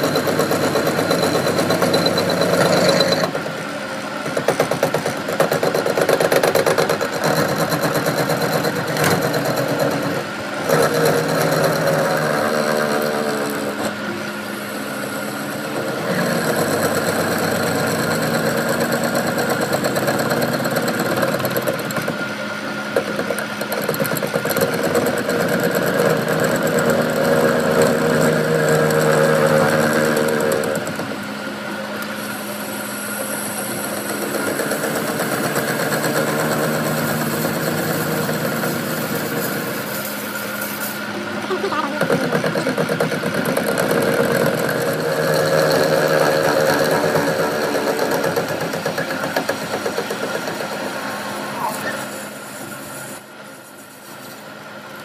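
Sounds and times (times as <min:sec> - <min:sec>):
motor humming: 0:00.0 - 0:53.9.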